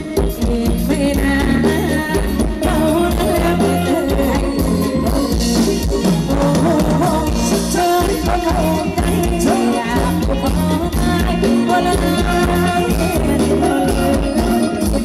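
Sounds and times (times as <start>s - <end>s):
live band playing dance music: 0.0s - 15.0s
person singing: 0.0s - 15.0s.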